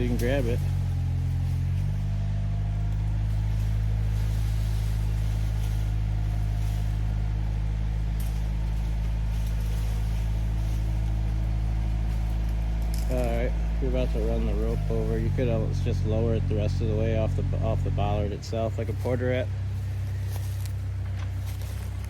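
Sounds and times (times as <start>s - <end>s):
loader engine running steadily: 0.0s - 22.0s.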